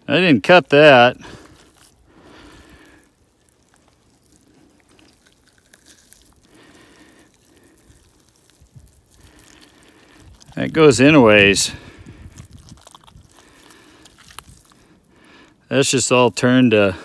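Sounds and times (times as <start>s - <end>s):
wet squelching and tearing of meat: 1.2s - 15.7s.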